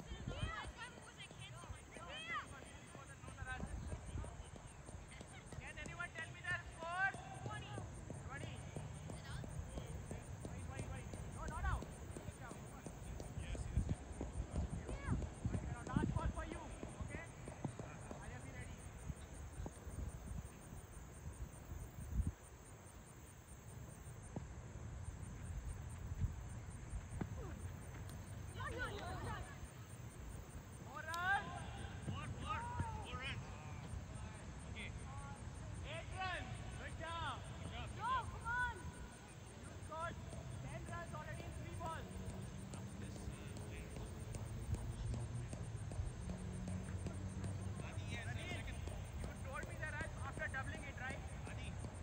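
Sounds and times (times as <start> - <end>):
insects chirping: 0.0 - 52.0.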